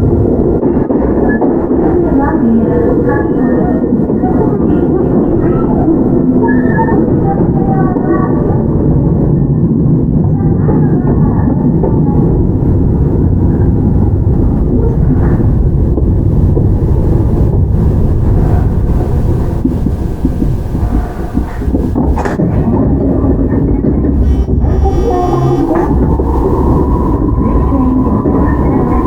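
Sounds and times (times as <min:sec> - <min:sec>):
electric train running: 0:00.0 - 0:29.0.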